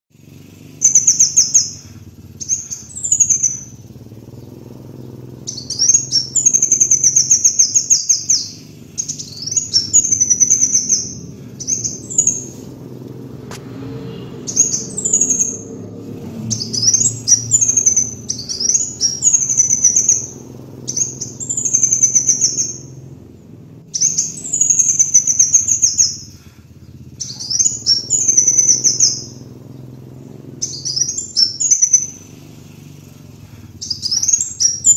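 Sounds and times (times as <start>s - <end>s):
faint low hum: 0.2s - 34.9s
sunbird twittering song: 0.2s - 34.9s.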